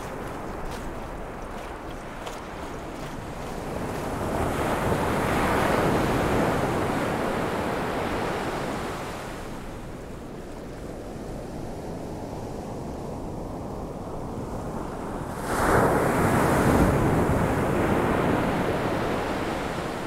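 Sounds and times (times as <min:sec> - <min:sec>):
ocean waves rushing in: 0:00.0 - 0:12.8, 0:14.6 - 0:20.0.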